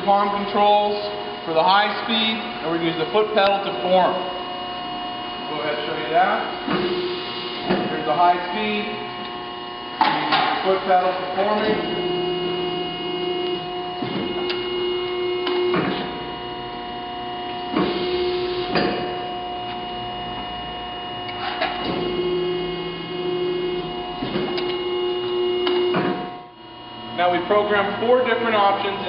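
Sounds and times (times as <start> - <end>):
hydraulic pump hum: 0.0 - 29.0.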